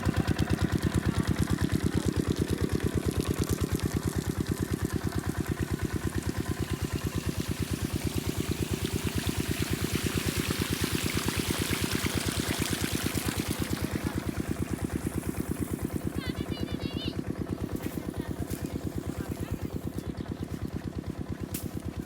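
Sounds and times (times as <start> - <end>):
water rushing from pipe: 0.0 - 20.0
diesel pump engine running: 0.0 - 22.0.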